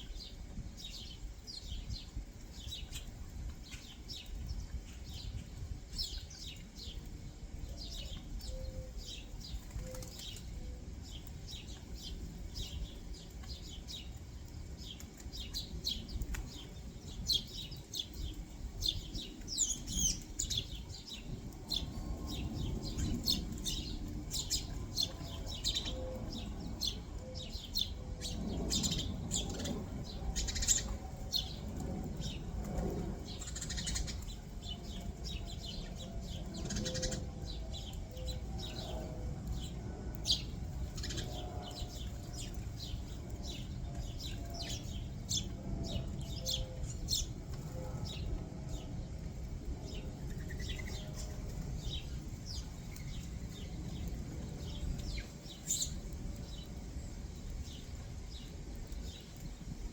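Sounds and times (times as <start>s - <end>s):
low background rumble: 0.0s - 59.9s
songbirds chirping: 0.0s - 59.9s.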